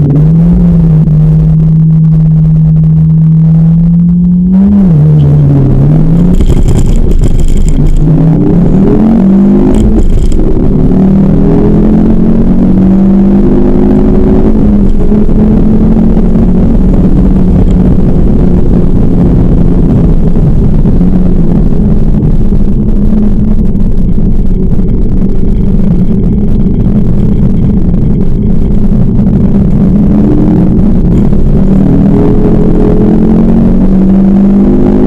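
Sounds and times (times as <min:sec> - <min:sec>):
car engine under hard driving: 0:00.0 - 0:35.0.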